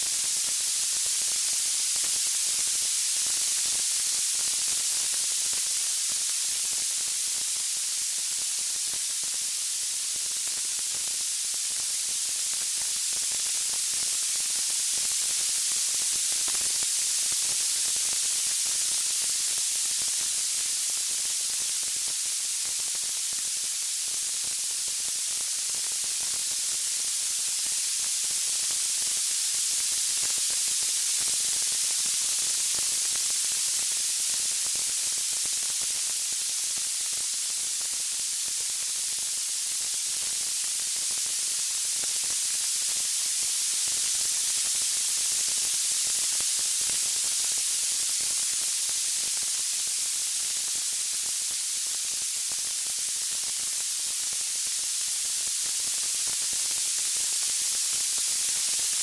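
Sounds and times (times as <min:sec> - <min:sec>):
high-pitched white noise hiss: 0:00.0 - 0:59.0.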